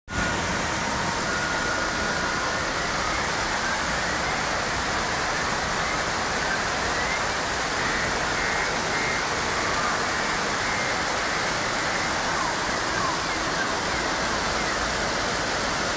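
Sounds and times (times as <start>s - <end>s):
steady rain hiss: 0.1s - 15.9s.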